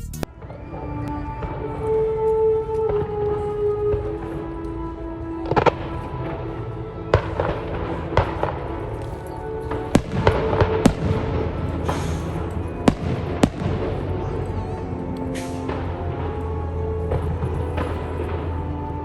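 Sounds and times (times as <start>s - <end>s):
music playing: 0.0s - 19.0s.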